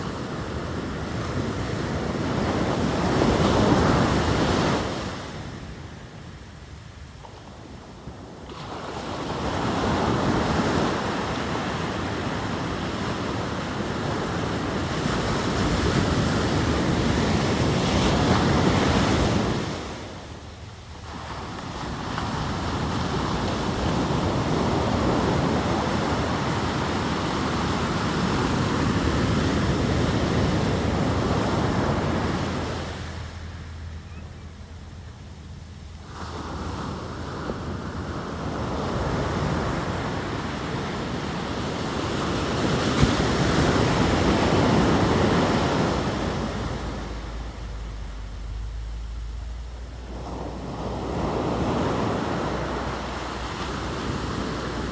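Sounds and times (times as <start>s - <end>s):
ocean surf breaking: 8.0s - 54.9s.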